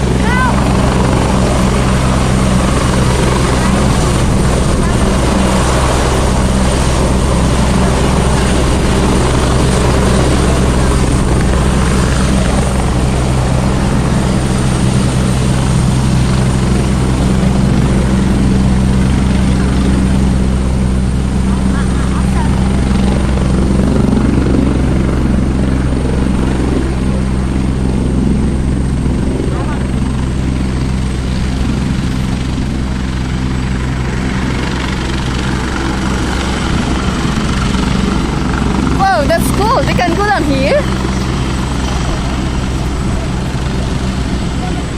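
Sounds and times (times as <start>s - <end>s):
helicopter rotor and engine: 0.0s - 44.9s.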